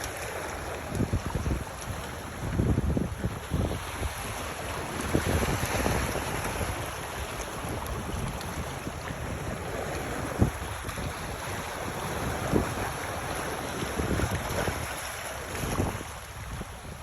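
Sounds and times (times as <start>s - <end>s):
water washing: 0.0s - 16.3s
wind buffeting microphone: 0.0s - 17.0s.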